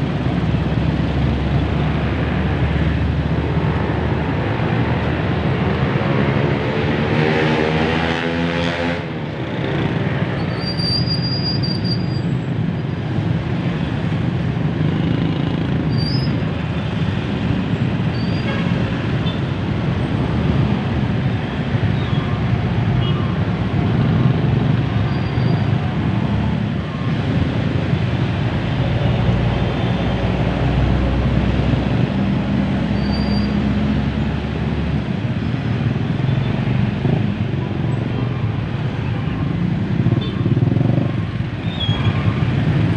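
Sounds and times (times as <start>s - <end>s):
slow road traffic: 0.0s - 42.9s.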